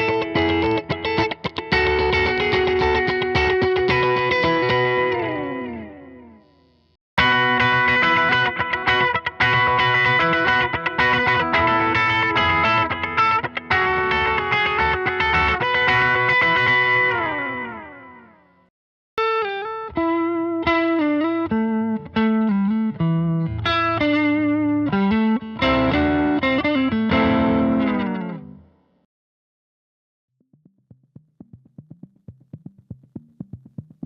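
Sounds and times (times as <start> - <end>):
picked guitar notes with bends: 0.0 - 6.6, 7.2 - 18.6, 19.2 - 28.7
electric guitar chords: 0.0 - 18.6, 19.2 - 28.8.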